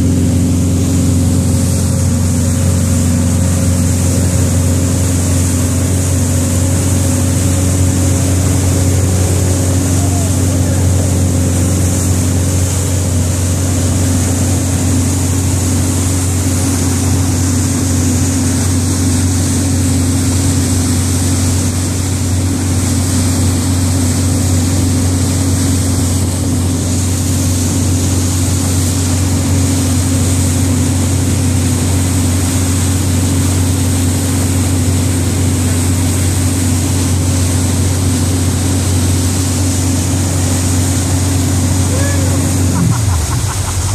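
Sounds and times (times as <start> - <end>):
boat wake churning: 0.0 - 43.9
motorboat engine running: 0.0 - 43.9.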